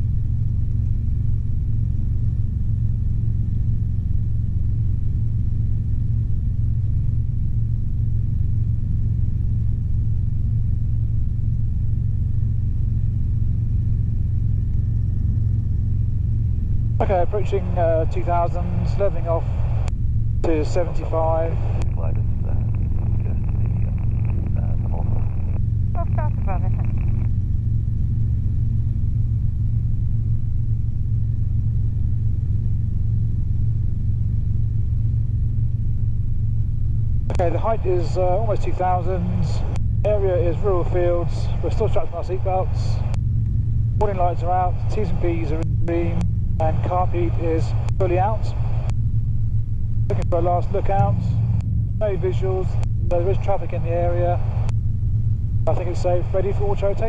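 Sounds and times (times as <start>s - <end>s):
helicopter drone in flight: 0.0s - 57.0s.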